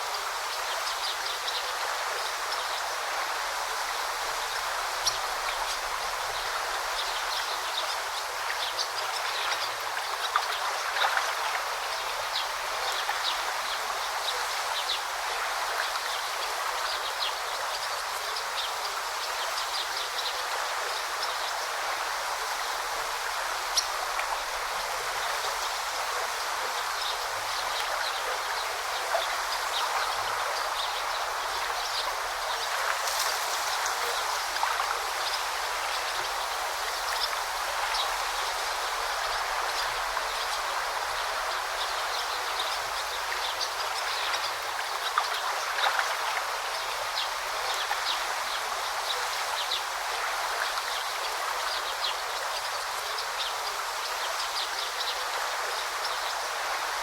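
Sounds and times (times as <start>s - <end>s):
stream babbling: 0.0s - 57.0s
water splashes and trickles: 0.0s - 57.0s.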